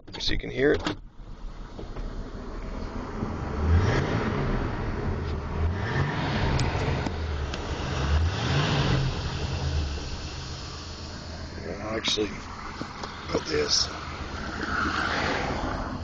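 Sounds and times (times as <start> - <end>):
pickup engine running: 1.0 - 16.0.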